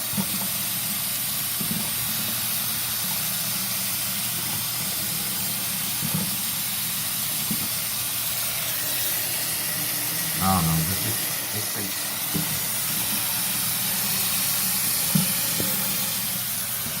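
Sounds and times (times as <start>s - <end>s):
water running from a faucet: 0.0s - 17.0s.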